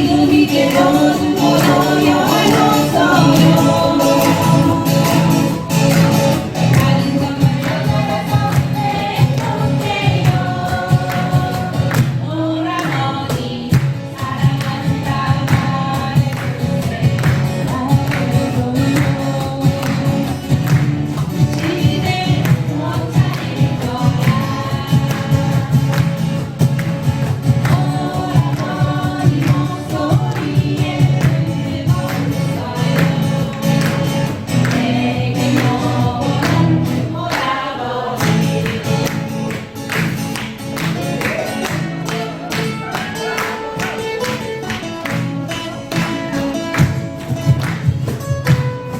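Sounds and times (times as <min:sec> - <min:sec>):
group of voices singing: 0:00.0 - 0:45.2
acoustic guitars strumming: 0:00.0 - 0:48.9.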